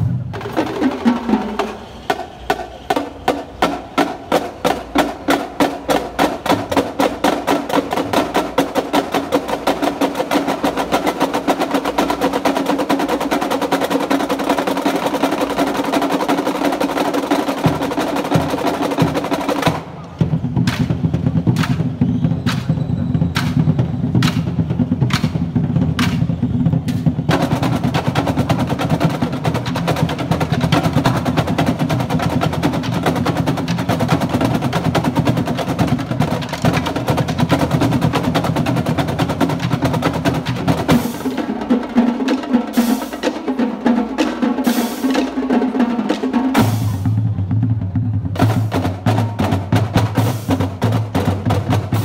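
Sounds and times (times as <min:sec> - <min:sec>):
marching drumline cadence: 0:00.0 - 0:52.0.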